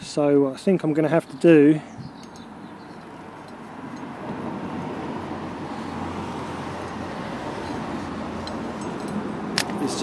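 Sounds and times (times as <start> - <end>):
vehicle engine rumbling: 1.2 - 10.0.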